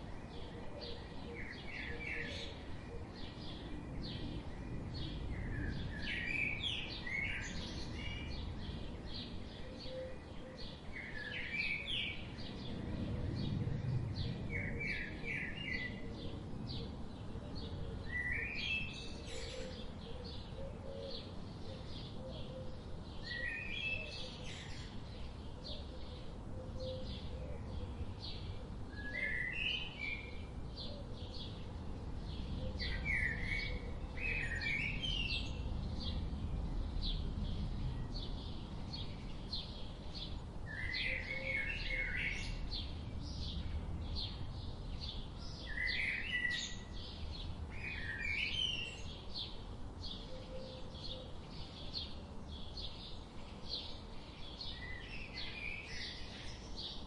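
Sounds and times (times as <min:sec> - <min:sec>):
low background noise: 0:00.0 - 0:57.0
songbirds chirping and singing: 0:00.0 - 0:57.0.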